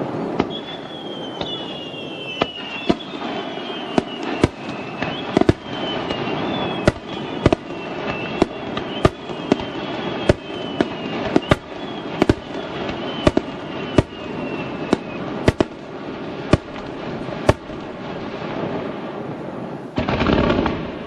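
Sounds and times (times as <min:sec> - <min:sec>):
falling firework whistle: 0:00.0 - 0:18.0
firework bangs: 0:00.0 - 0:21.0
fireworks crackling hiss: 0:00.0 - 0:21.0.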